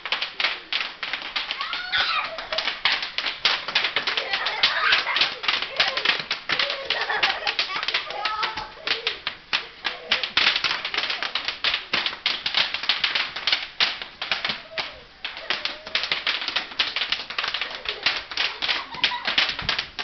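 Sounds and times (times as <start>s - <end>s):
bubble wrap popping: 0.0s - 20.0s.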